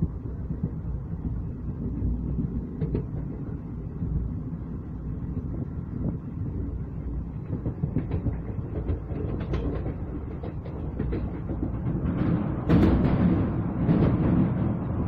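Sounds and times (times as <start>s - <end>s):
train clanks and knocks: 0.0s - 15.0s
train wheels rumbling on rail: 0.0s - 15.0s.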